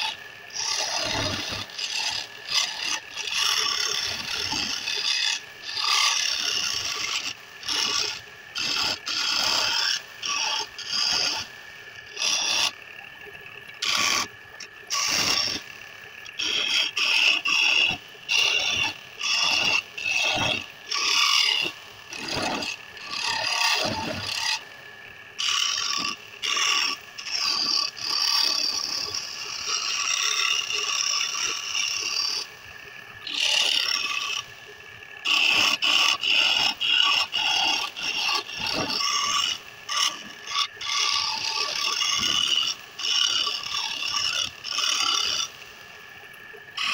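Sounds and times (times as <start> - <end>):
lathe tool cutting wood: 0.0 - 46.9
lathe whining: 0.0 - 46.9.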